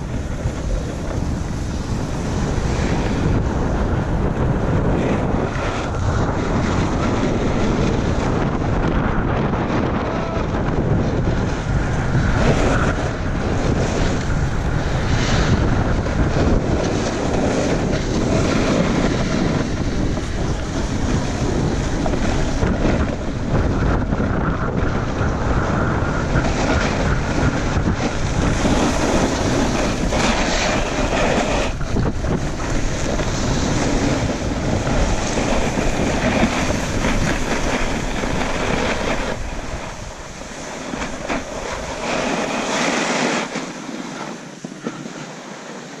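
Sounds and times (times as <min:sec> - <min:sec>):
skis scraping on packed snow: 0:00.0 - 0:09.8, 0:10.8 - 0:46.0
wind buffeting microphone: 0:00.0 - 0:46.0.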